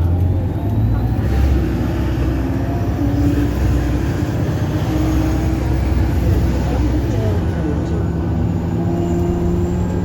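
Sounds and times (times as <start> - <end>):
bus engine drone: 0.0 - 10.0
faint drivetrain whine: 0.0 - 10.0.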